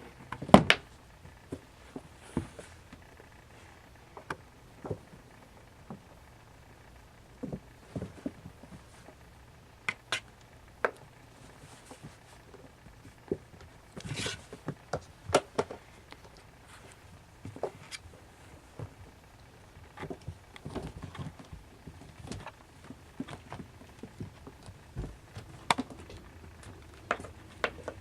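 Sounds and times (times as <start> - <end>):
kittens' paws thumping and scrabbling: 0.1 - 6.2, 6.8 - 9.2, 9.8 - 28.0.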